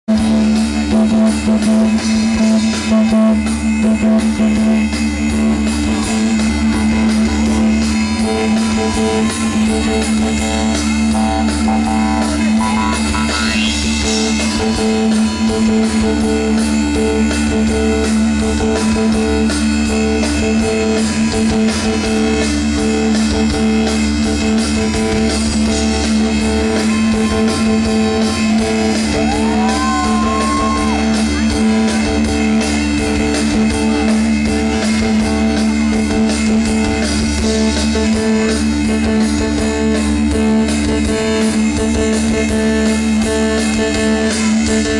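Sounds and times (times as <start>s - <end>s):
rock band playing: 0.1s - 44.9s.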